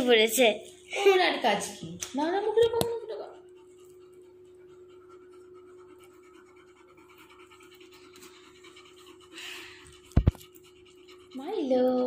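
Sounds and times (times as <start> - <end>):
dog panting softly: 0.0 - 12.0.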